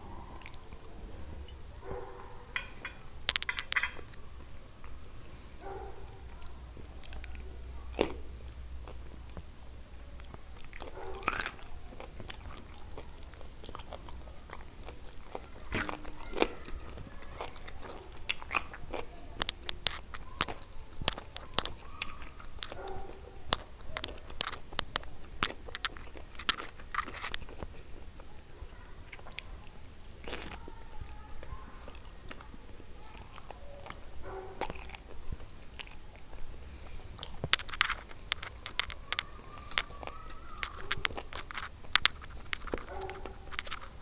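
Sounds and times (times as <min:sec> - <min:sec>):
wet chewing: 0:00.0 - 0:44.0
crisp crunches: 0:04.8 - 0:44.0.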